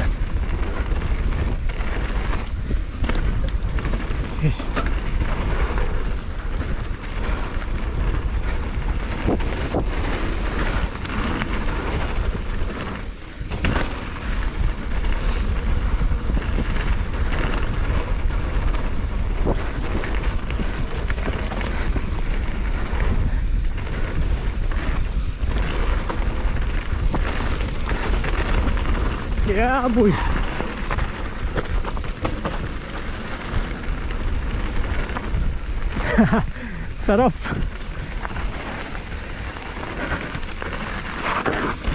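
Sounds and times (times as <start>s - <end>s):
bike rattling over bumps: 0.0s - 41.9s
bike tyres rolling on dirt: 0.0s - 41.9s
wind buffeting microphone: 0.0s - 41.9s.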